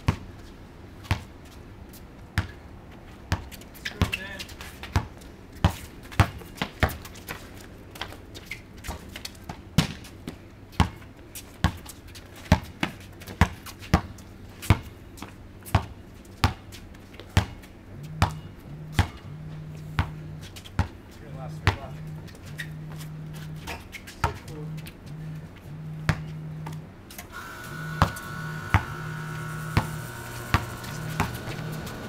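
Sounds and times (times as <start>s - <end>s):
basketball bouncing on concrete: 1.0s - 1.3s, 2.3s - 2.6s, 3.3s - 8.2s, 8.8s - 25.2s, 25.9s - 26.8s, 27.6s - 32.0s.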